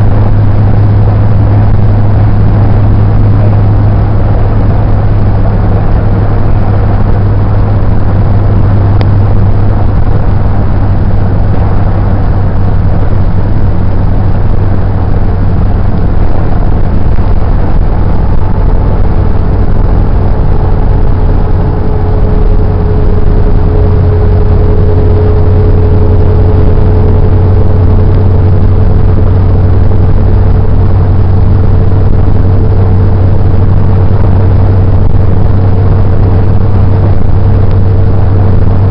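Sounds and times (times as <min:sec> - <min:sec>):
car engine and road drone: 0:00.0 - 0:38.9
faint steady whine: 0:00.0 - 0:38.9.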